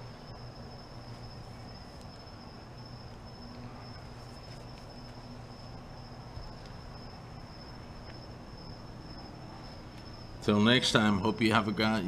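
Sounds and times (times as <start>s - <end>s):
crickets trilling: 0.0s - 12.0s
low hum: 0.0s - 12.0s.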